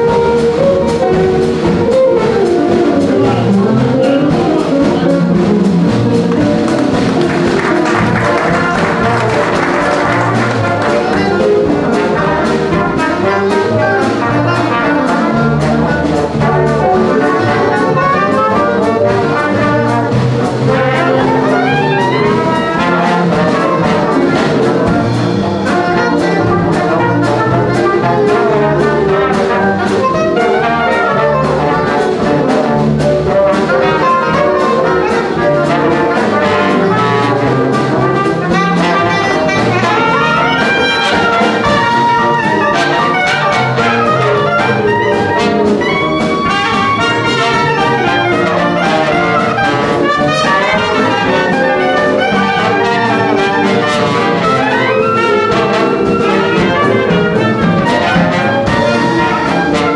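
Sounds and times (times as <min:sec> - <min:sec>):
double bass: 0:00.0 - 0:59.9
drums: 0:00.0 - 0:59.9
jazz band playing: 0:00.0 - 0:59.9
trombone: 0:00.0 - 0:59.9
trumpet: 0:00.0 - 0:59.9.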